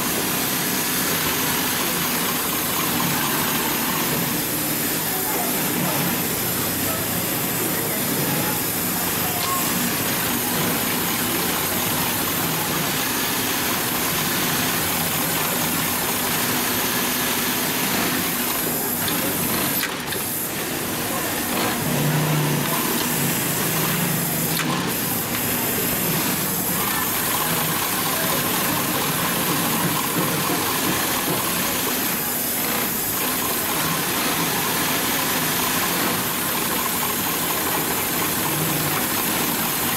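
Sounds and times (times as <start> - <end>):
sewing machine whirring: 0.0 - 39.9.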